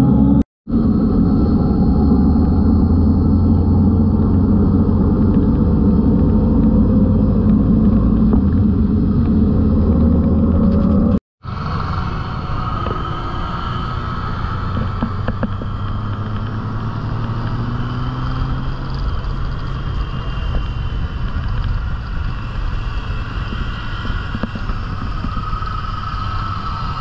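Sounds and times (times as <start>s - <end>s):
higher engine note: 0.0s - 27.0s
motorcycle engine hum: 0.0s - 27.0s
wind and road rush: 0.0s - 27.0s.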